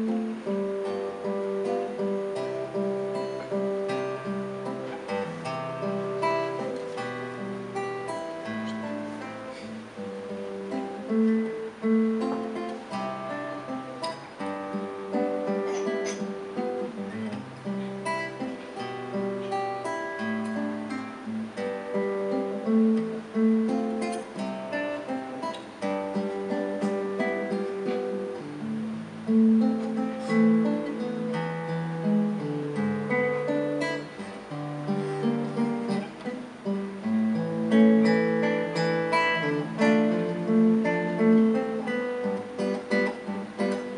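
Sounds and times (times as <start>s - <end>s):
fingerstyle nylon-string guitar: 0.0s - 43.9s.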